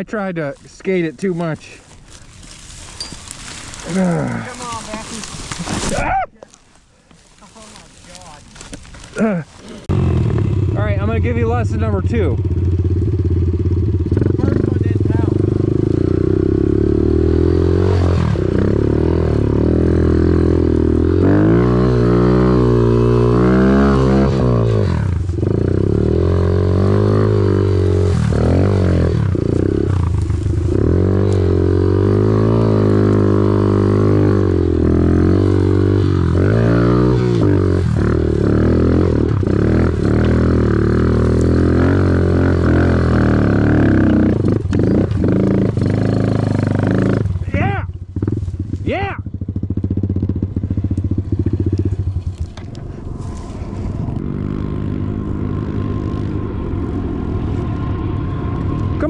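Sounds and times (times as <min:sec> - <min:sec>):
off-road vehicle engine revving: 0:03.3 - 0:06.0, 0:09.0 - 0:59.0.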